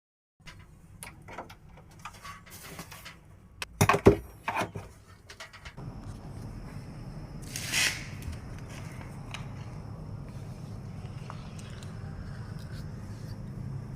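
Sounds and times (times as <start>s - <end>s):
low hum with high whine: 0.5s - 13.9s.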